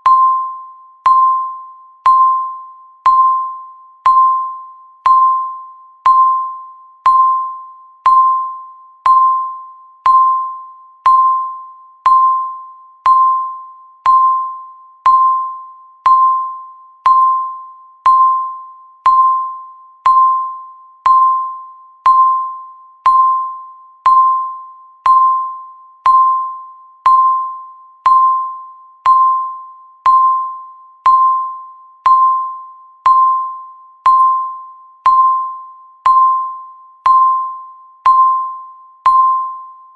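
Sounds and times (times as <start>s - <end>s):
timer ticking beeps: 0.0s - 39.9s.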